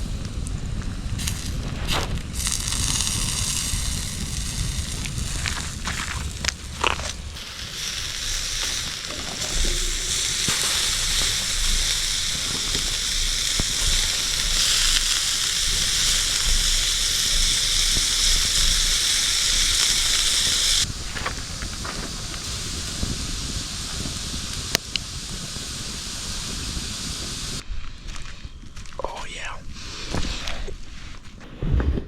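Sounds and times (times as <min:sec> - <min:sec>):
sausages sizzling on a grill: 0:00.0 - 0:28.2
faint fire crackles: 0:00.0 - 0:32.0.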